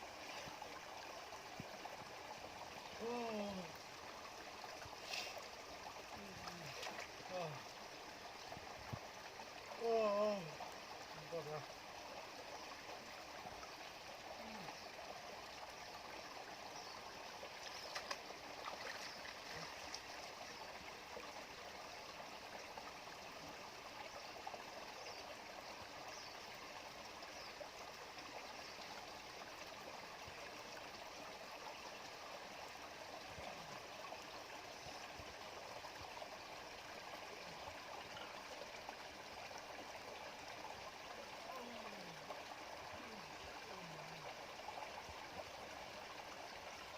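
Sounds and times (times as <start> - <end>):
stream babbling over stones: 0.0 - 46.9.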